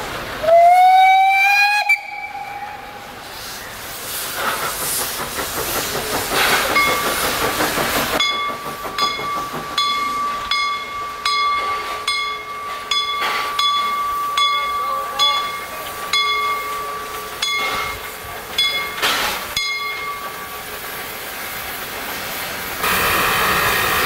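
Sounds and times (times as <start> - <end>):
locomotive venting steam: 0.0 - 24.0
sharp clicks of moving train: 1.8 - 24.0.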